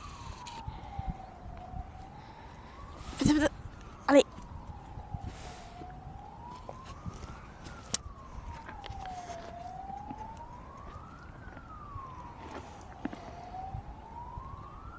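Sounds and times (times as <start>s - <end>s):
siren wailing: 0.0s - 14.9s.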